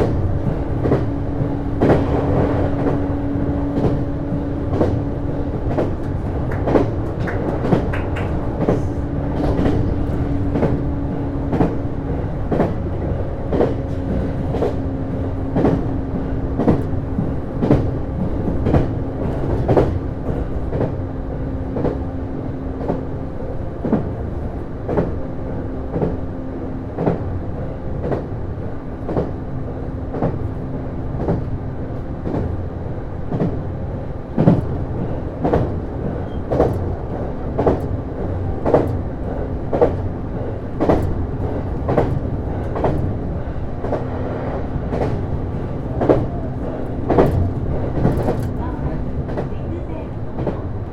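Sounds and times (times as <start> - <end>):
railcar interior drone: 0.0 - 50.9.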